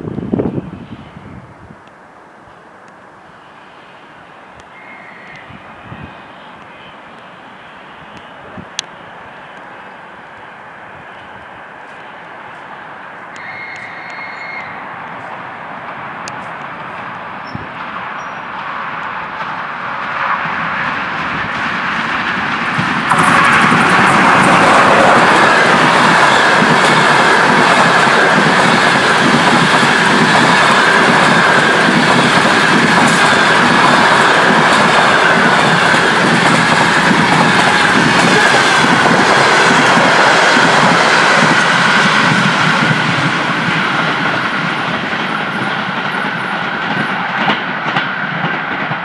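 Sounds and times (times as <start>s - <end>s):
passenger train passing: 0.0s - 49.0s.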